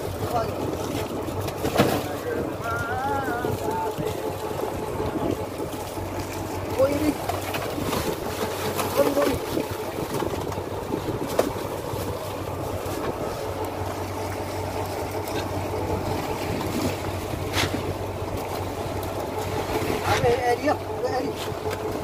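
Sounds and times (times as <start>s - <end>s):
boat engine humming: 0.0s - 22.0s
sea noise: 0.0s - 22.0s
wind: 0.0s - 22.0s.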